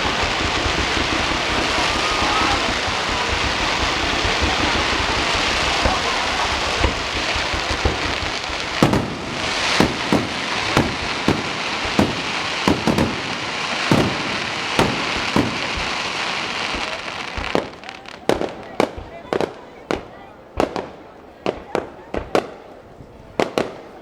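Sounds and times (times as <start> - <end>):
fireworks crackling: 0.0 - 24.0
fireworks sharp bangs: 0.0 - 24.0.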